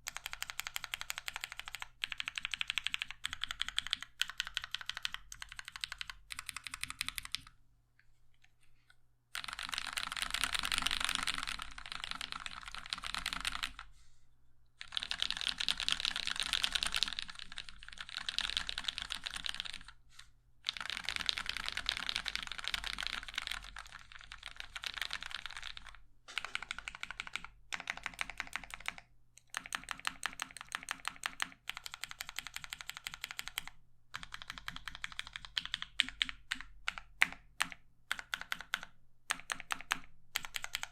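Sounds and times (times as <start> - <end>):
mechanical keyboard typing: 0.0 - 7.5, 9.4 - 13.8, 14.8 - 20.0, 20.6 - 40.9.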